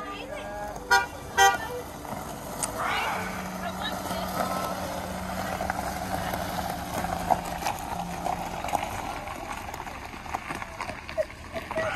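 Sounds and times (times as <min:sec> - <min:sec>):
car engine running: 0:00.0 - 0:11.9
gravel crunching: 0:00.0 - 0:11.9.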